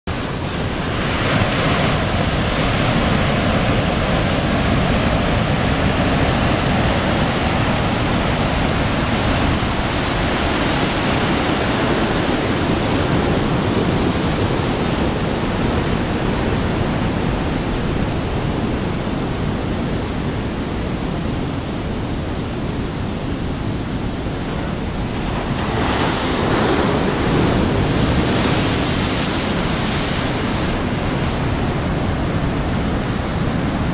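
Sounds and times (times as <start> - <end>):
heavy ocean surf breaking: 0.1 - 33.9
wind buffeting microphone: 0.1 - 33.9.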